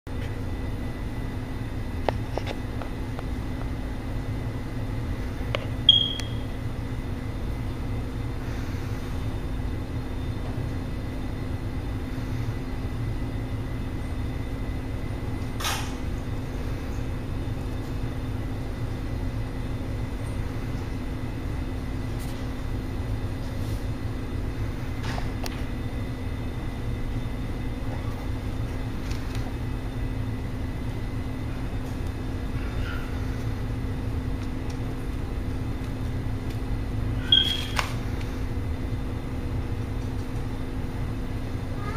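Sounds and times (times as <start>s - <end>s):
low machine hum: 0.1s - 41.9s.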